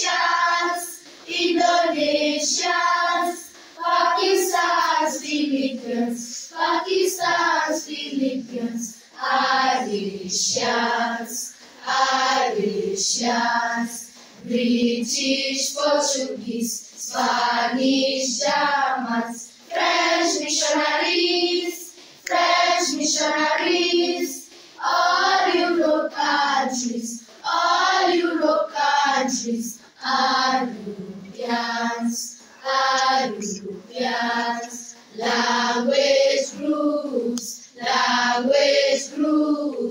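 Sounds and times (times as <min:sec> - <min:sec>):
unaccompanied singing voices: 0:00.0 - 0:39.9.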